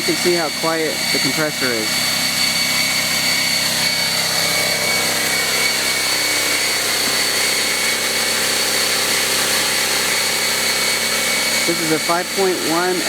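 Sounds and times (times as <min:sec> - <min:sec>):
air compressor running: 0:00.0 - 0:13.0
thin high whine: 0:00.0 - 0:13.0.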